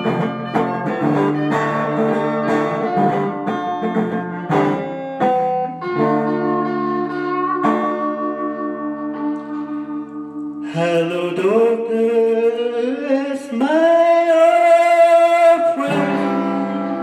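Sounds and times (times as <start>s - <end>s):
guitar chords ringing: 0.0s - 17.0s.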